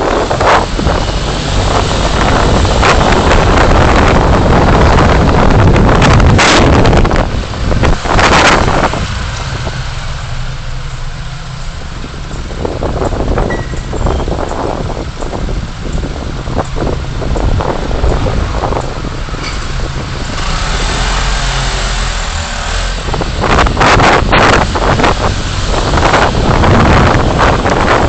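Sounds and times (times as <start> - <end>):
car tyre and engine noise: 0.0 - 28.0.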